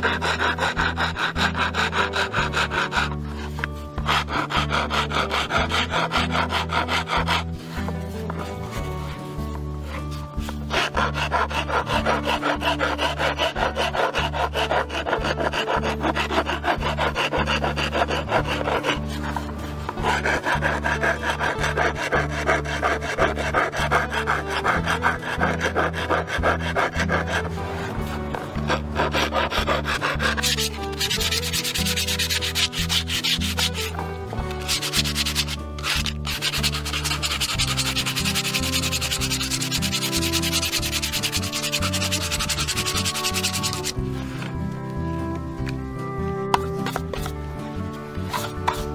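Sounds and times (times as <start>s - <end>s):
sandpaper sanding wood: 0.0s - 9.1s, 9.8s - 44.5s, 48.3s - 48.9s
wood rasp scraping: 0.0s - 48.9s.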